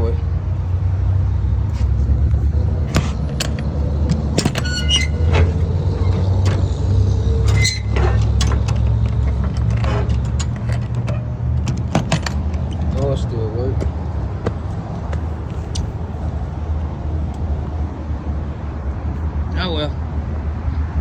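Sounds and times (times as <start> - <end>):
motor vehicle rumble: 0.0 - 21.0.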